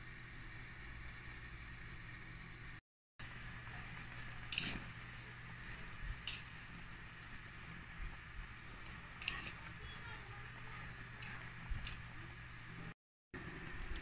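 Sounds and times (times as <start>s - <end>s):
pot boiling bubbling hiss: 0.0s - 14.0s
steady low hum: 0.0s - 14.0s.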